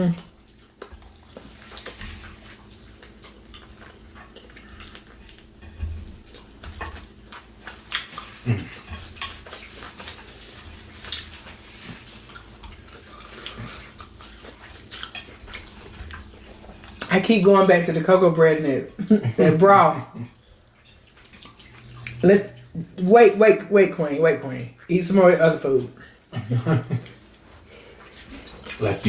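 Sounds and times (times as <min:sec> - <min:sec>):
chewing and mouth noises: 0:00.0 - 0:17.4, 0:18.9 - 0:23.0, 0:26.9 - 0:29.0.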